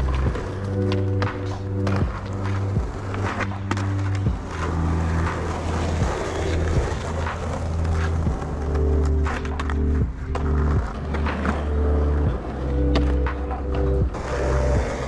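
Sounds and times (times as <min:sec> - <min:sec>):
music with low held chords: 0:00.0 - 0:15.0
skateboard clacks: 0:00.0 - 0:15.0
skateboard wheels rolling on asphalt: 0:00.0 - 0:15.0.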